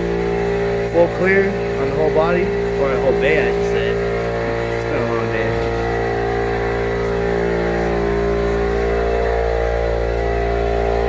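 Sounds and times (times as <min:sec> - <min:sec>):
motor droning hum: 0:00.0 - 0:11.0.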